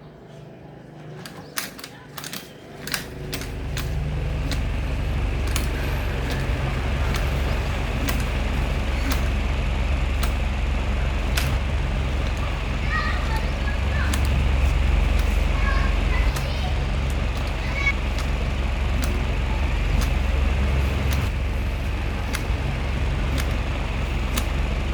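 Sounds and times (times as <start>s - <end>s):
ceiling fan motor humming: 0.0s - 24.9s
sharp clicks: 1.2s - 24.9s.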